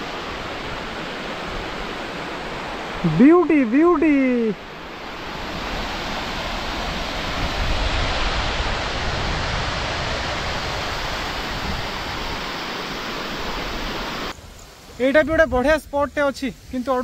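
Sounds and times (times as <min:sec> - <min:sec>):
water rushing over a dam: 0:00.0 - 0:14.4.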